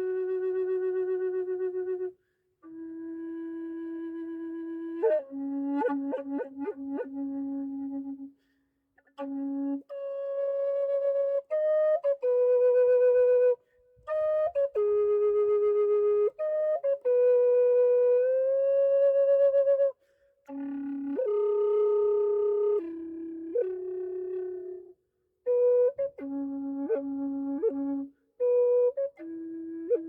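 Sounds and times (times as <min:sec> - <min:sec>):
wooden flute melody: 0:00.0 - 0:30.0.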